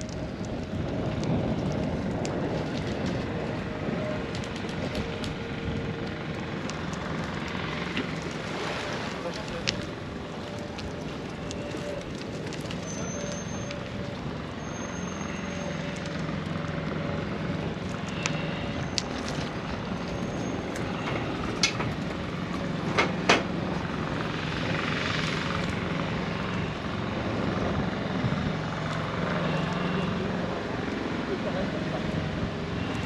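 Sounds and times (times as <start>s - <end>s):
low engine drone: 0.0s - 33.0s.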